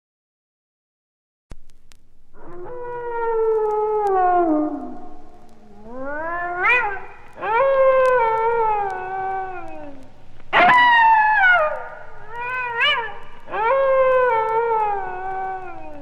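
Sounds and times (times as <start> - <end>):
cats yowling: 2.4 - 16.0.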